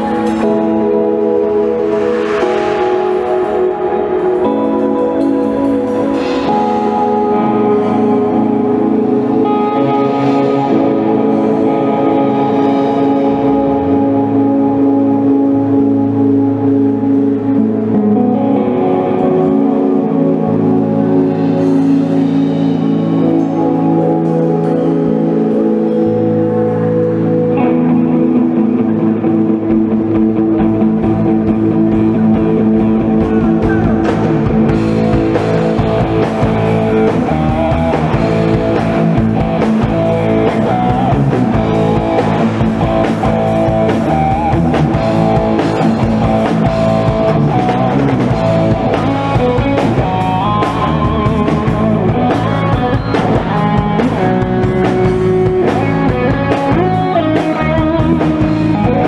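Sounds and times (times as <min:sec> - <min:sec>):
drum kit: 0:00.0 - 0:28.6, 0:29.6 - 0:59.0
electric bass: 0:00.0 - 0:59.0
lead electric guitar: 0:00.0 - 0:59.0.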